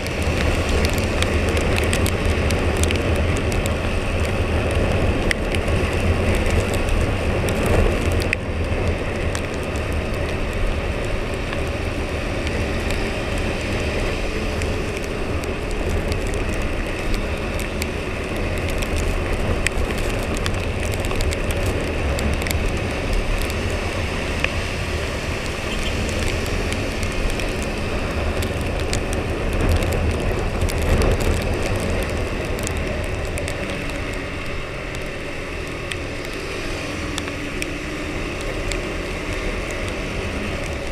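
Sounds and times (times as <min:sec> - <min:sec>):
rain ticks and crackles: 0:00.0 - 0:40.9
wet road noise: 0:00.0 - 0:40.9
wind noise: 0:00.0 - 0:40.9.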